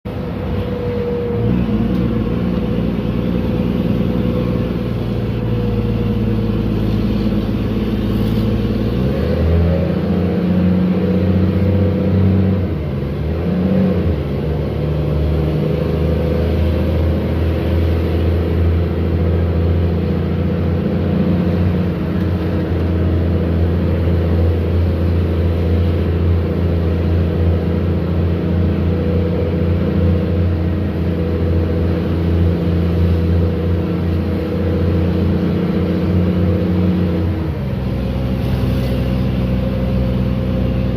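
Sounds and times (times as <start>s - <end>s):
bus engine droning: 0.0s - 40.9s.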